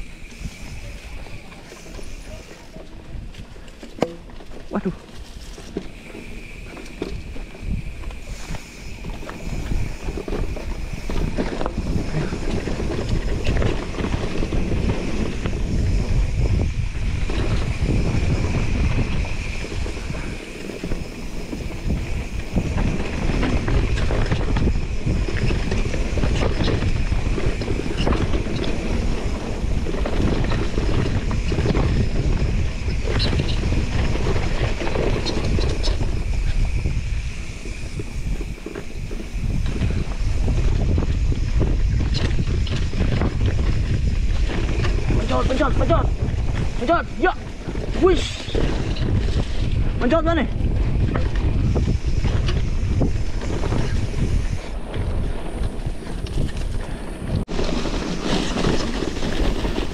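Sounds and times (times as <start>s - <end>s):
wind buffeting microphone: 0.0s - 3.8s, 4.8s - 59.9s
bike rattling on rough ground: 0.0s - 59.9s.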